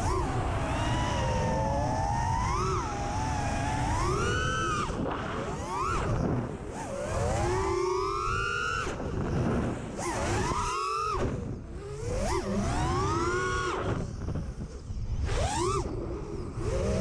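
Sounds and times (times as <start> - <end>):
drone motors whining: 0.0 - 17.0
wind rumble on microphone: 0.0 - 17.0.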